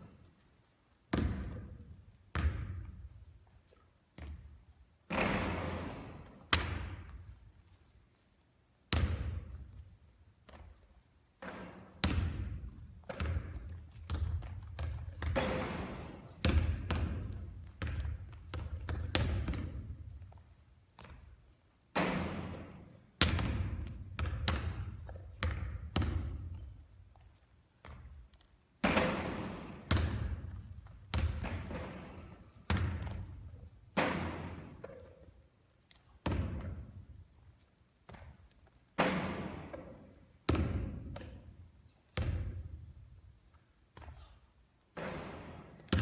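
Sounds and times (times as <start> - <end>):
basketball bouncing on court: 1.1 - 3.3, 4.2 - 7.5, 8.9 - 20.4, 21.0 - 35.3, 35.9 - 37.2, 38.0 - 43.0, 44.9 - 46.0.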